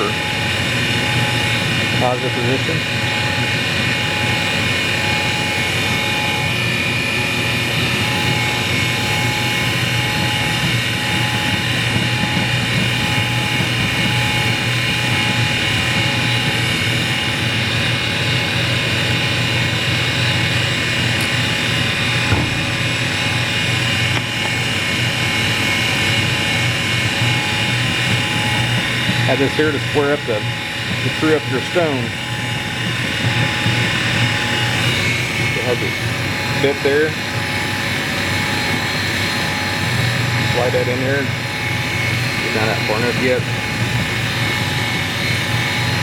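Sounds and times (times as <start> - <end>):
grinder motor hum and whine: 0.0 - 46.0.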